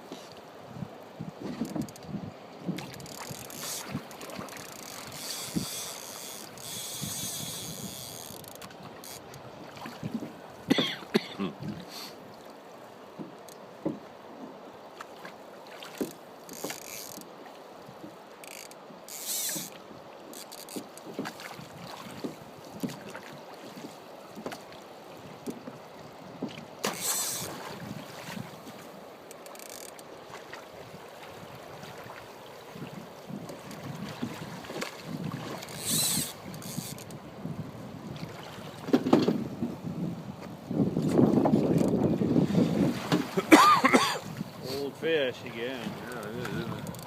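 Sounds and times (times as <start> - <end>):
rushing water: 0.0 - 47.0
wind: 0.0 - 47.0.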